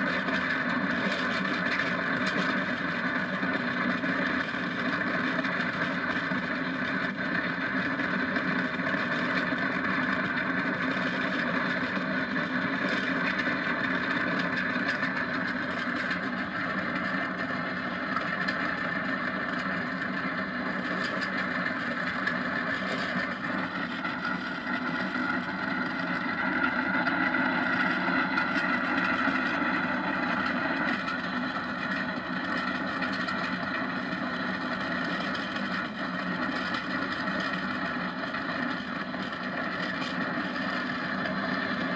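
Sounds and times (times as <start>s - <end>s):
go-kart running on asphalt: 0.0s - 41.9s.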